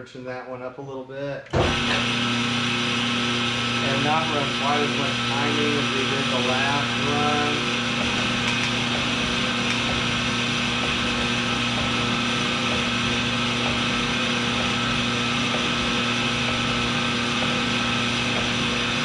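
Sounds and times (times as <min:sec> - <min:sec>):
honing machine motor humming: 0:01.7 - 0:19.0.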